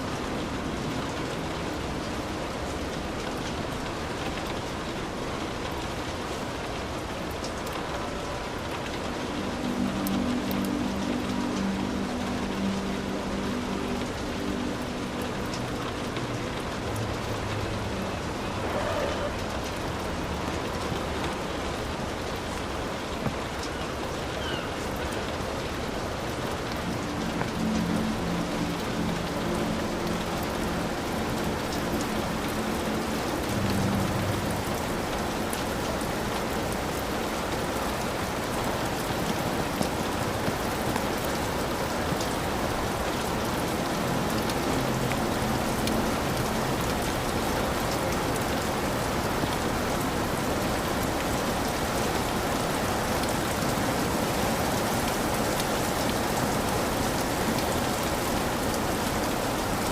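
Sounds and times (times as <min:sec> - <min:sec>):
heavy rain: 0:00.0 - 0:59.9
raindrops ticking: 0:00.0 - 0:59.9.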